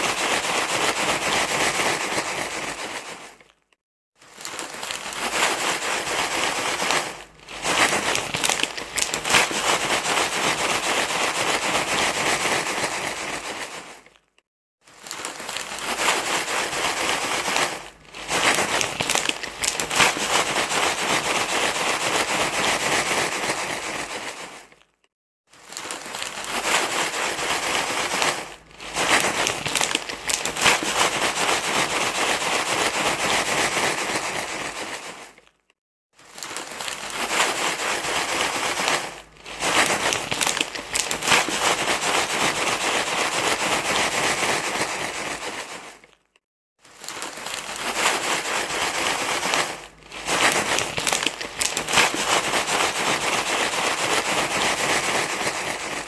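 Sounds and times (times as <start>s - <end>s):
crinkling rustle: 0.0s - 56.0s.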